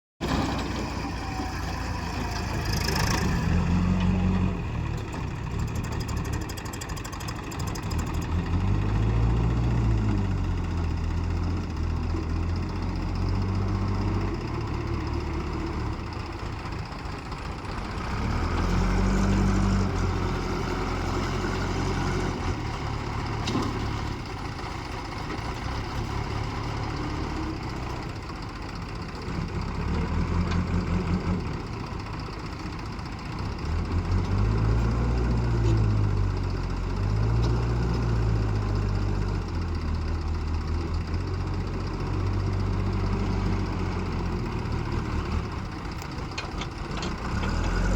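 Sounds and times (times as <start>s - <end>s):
diesel engine revving: 0.2s - 6.5s, 7.6s - 16.2s, 17.4s - 24.3s, 29.3s - 31.8s, 33.3s - 47.9s.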